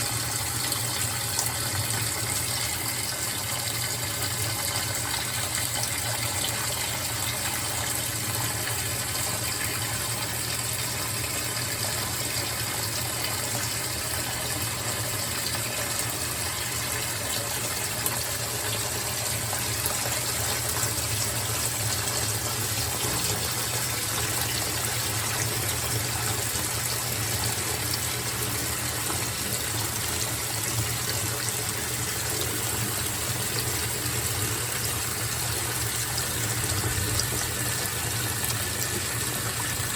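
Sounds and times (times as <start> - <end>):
water gushing into tub: 0.0 - 39.9.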